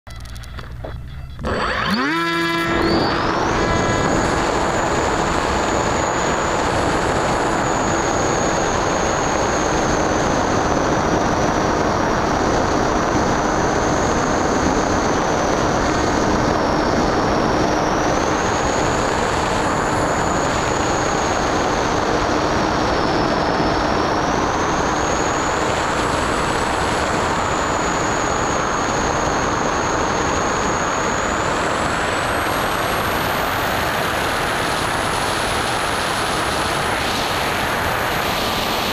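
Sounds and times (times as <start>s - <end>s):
electric motor whining: 0.1s - 38.9s
wind rushing over microphone: 1.4s - 38.9s.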